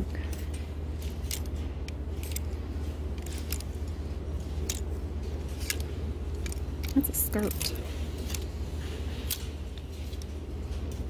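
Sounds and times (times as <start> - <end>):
plastic hangers clicking on metal rack: 0.0 - 11.0
steady low hum: 0.0 - 11.0.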